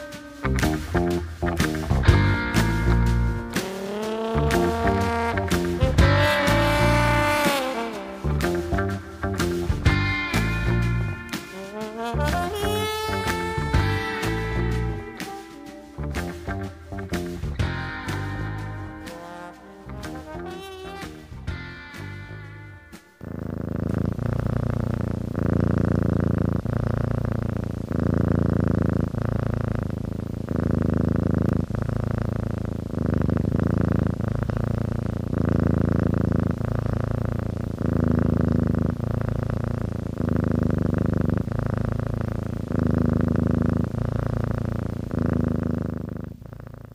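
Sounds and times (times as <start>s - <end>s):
cat purring: 0.0s - 46.9s.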